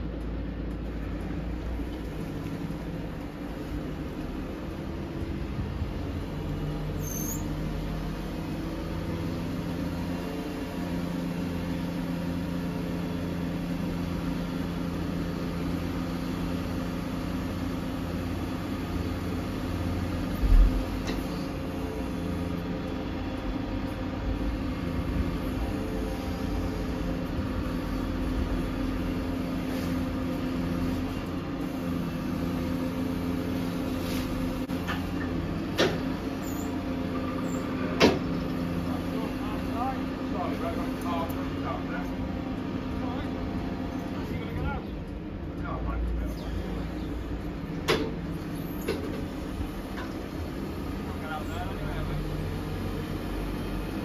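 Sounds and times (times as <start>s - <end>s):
diesel lorry engine running: 0.0s - 54.0s.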